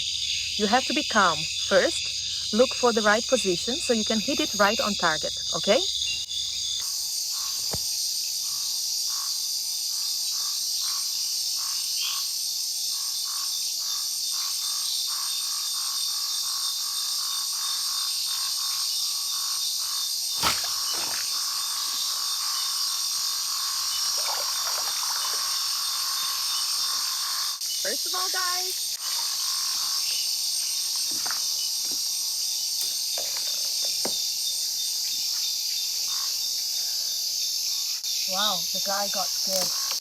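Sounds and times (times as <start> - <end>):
frogs calling: 0.0 - 40.0
high insect buzz: 0.0 - 40.0.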